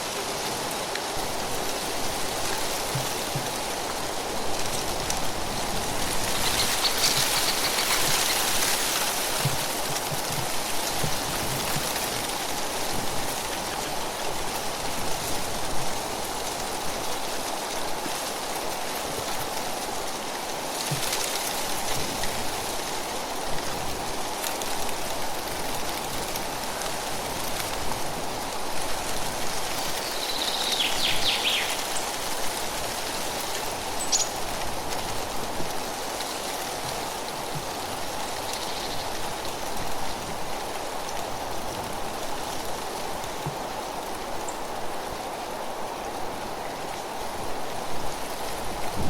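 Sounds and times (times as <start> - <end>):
leaves rustling in breeze: 0.0 - 49.0.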